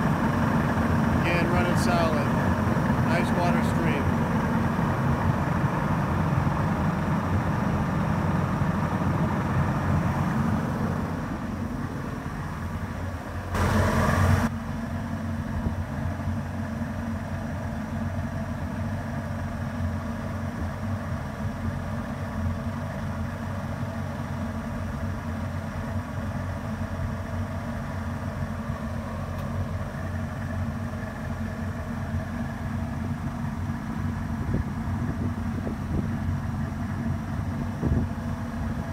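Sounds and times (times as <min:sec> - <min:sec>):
outboard engine running: 0:00.0 - 0:38.9.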